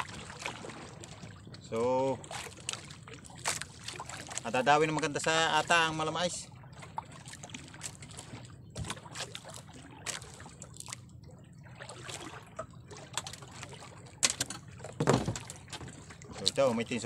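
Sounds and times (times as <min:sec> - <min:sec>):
short splashes or knocks: 0:00.0 - 0:06.0, 0:06.8 - 0:11.0, 0:11.6 - 0:16.7
water lapping against boat hull: 0:00.0 - 0:17.0.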